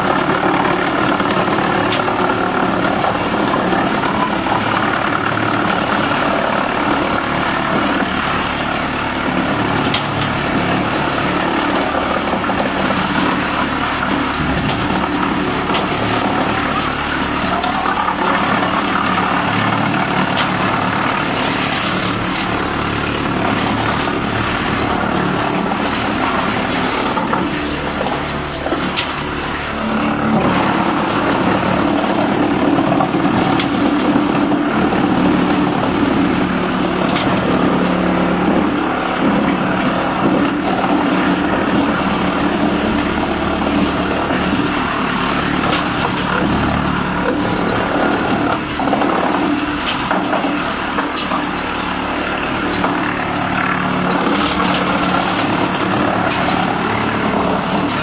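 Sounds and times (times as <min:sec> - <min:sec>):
wood chipper drone: 0:00.0 - 0:58.0.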